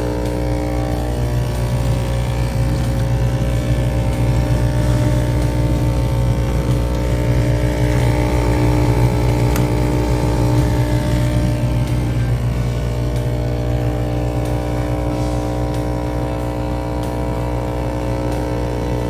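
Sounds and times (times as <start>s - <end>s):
dishwasher solenoid buzzing: 0.0s - 19.0s.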